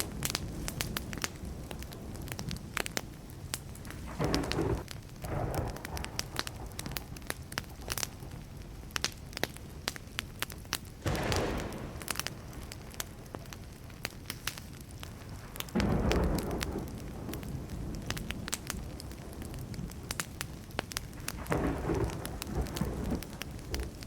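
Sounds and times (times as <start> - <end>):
thunder rumbling: 0.0 - 24.0
wood fire crackling and popping: 0.0 - 24.0.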